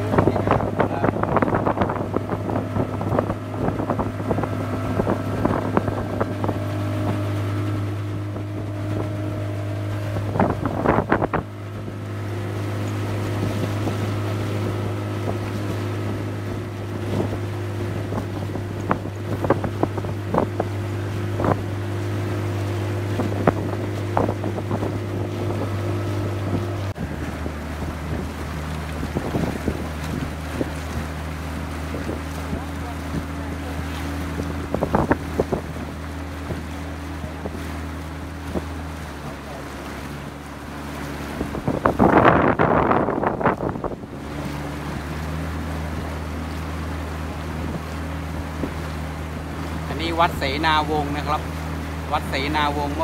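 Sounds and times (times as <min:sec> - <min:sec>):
outboard motor running: 0:00.0 - 0:53.0
water splashing against hull: 0:00.0 - 0:53.0
wind on microphone: 0:00.0 - 0:53.0.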